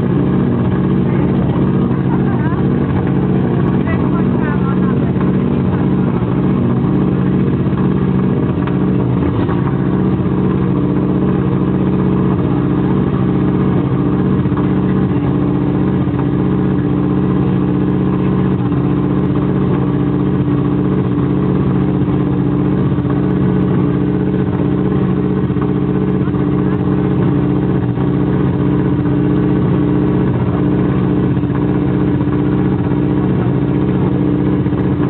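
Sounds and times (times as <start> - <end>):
rally car engine running steadily: 0.0 - 35.0.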